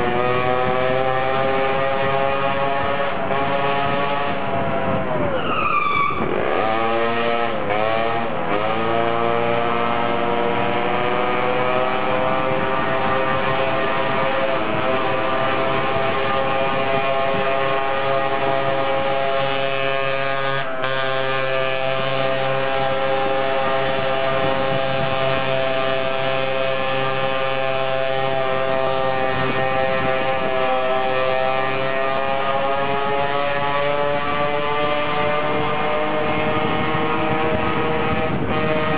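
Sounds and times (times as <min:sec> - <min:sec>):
scooter engine at high revs: 0:00.0 - 0:05.5, 0:06.1 - 0:38.9.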